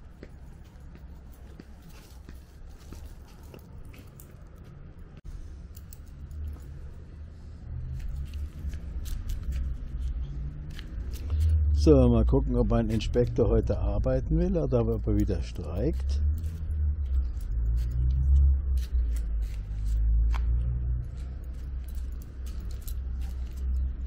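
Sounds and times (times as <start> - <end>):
faint footsteps on pavement: 0.0 - 24.0
wind rumble: 0.0 - 24.0.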